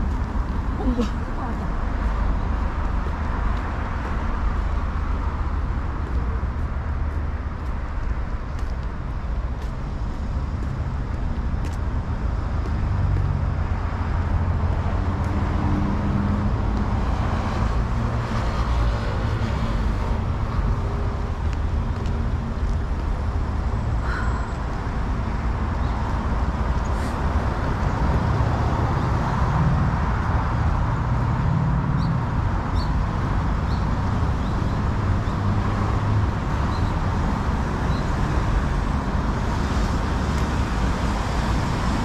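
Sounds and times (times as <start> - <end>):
road traffic rumble: 0.0 - 42.0
vehicle engine hum: 0.0 - 42.0.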